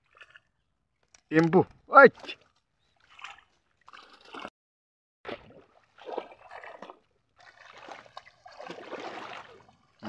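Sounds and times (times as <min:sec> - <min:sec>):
pond water splashing: 0:00.0 - 0:04.5, 0:05.2 - 0:10.0.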